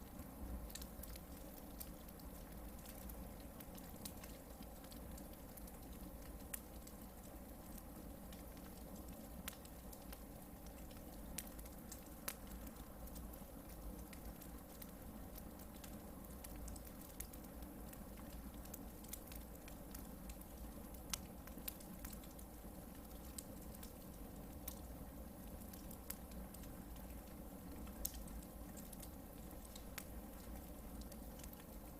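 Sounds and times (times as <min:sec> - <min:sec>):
fire crackling and popping: 0:00.0 - 0:31.9
campfire hissing: 0:00.2 - 0:31.9.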